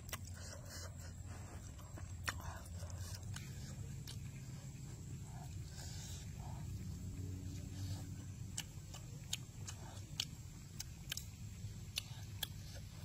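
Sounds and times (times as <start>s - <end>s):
chewing and lip-smacking: 0.0s - 13.0s
low steady hum: 0.0s - 13.0s.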